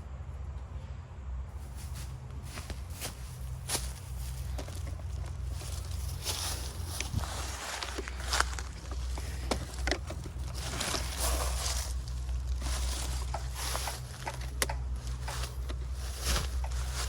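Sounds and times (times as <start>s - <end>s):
steady low hum: 0.0s - 17.0s
dry leaves and sticks rustling: 1.5s - 17.0s.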